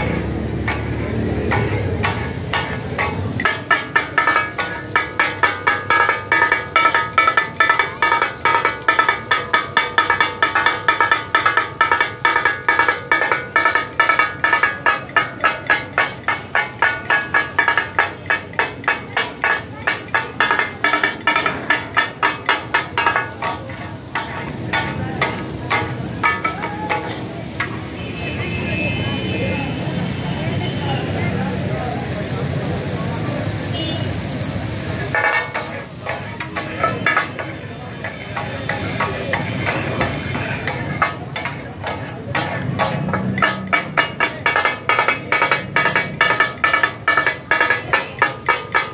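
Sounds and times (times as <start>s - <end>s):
spatulas clanging on griddle: 0.0s - 29.2s, 33.6s - 48.9s
steady sizzle: 0.0s - 48.9s.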